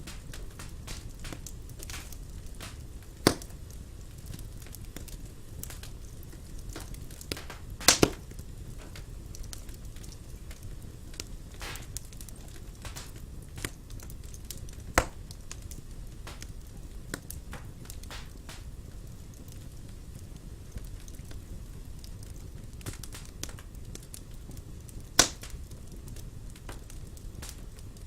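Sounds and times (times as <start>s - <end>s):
fire crackles and pops: 0.0s - 28.0s
low rumble of flames: 0.0s - 28.0s.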